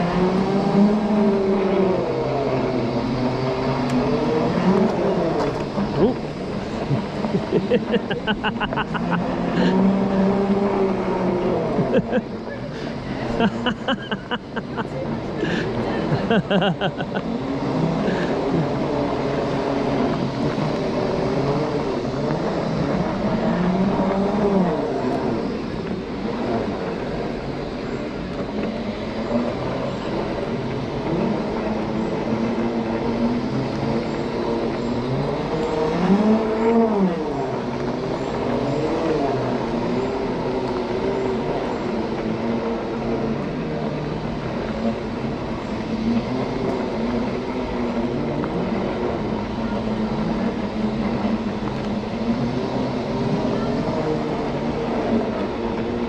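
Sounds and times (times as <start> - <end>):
tyre noise: 0.0 - 56.0
wind: 0.0 - 56.0.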